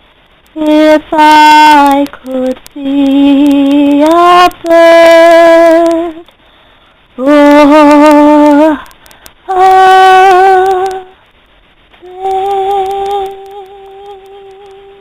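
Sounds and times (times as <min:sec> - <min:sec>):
woman singing long held notes: 0:00.5 - 0:06.3, 0:07.2 - 0:11.3, 0:12.0 - 0:15.0.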